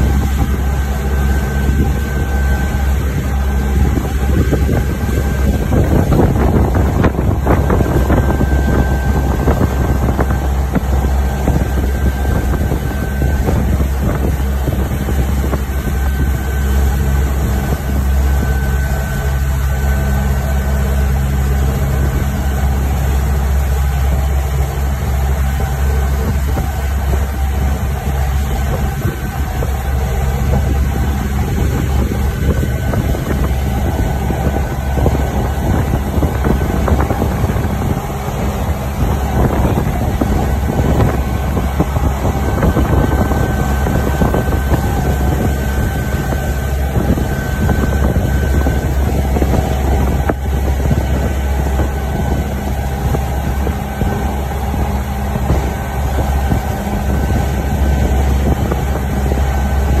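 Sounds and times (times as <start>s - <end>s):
motorboat engine drone: 0.0s - 60.0s
water churning in wake: 0.0s - 60.0s.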